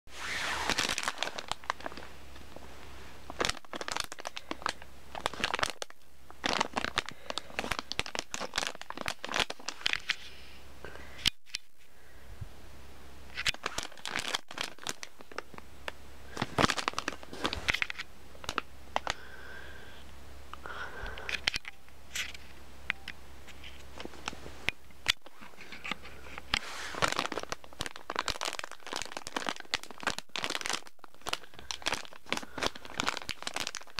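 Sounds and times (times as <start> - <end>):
plastic packaging crinkling: 0.2 - 2.6, 3.2 - 10.3, 13.3 - 19.4, 20.8 - 33.9.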